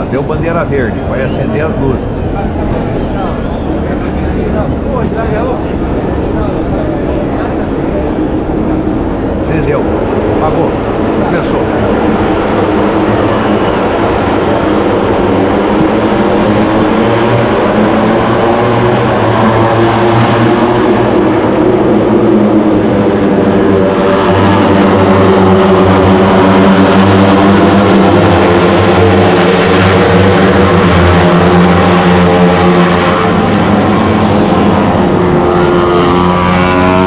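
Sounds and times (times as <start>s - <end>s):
racing motorcycles revving hard: 0.0s - 37.0s.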